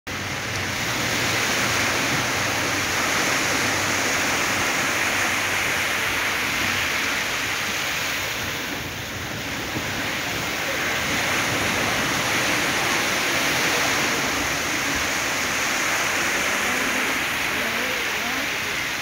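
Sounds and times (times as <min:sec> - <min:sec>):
waves washing up a sandy beach: 0:00.1 - 0:19.0.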